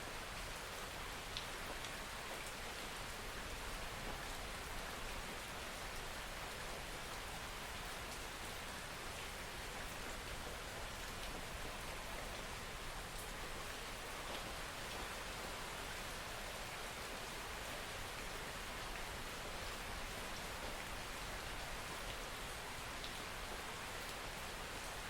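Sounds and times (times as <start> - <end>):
soft rain falling: 0.0 - 25.0.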